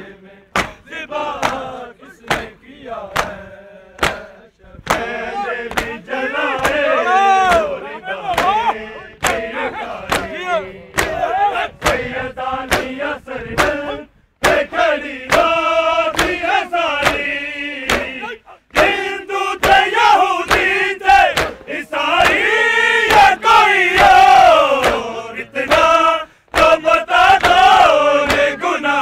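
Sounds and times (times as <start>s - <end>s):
men chanting in unison: 0.0s - 29.0s
open-hand chest-beating slaps: 0.5s - 6.9s, 7.5s - 7.7s, 8.3s - 9.5s, 10.1s - 10.4s, 11.0s - 13.0s, 13.6s - 28.6s.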